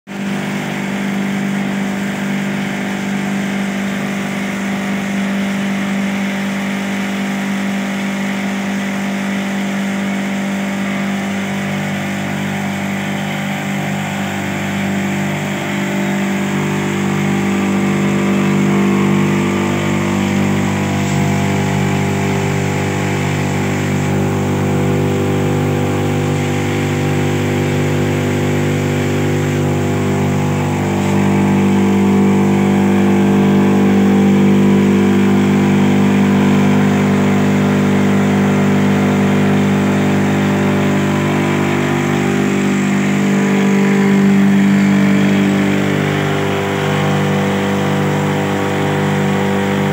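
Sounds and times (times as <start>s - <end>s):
grinding machinery humming: 0.1s - 49.9s.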